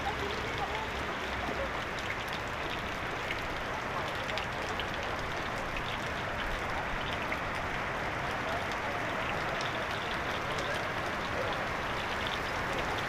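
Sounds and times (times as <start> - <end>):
heavy rain on a flooded road: 0.0 - 13.0
small splashes and drips: 0.0 - 13.0.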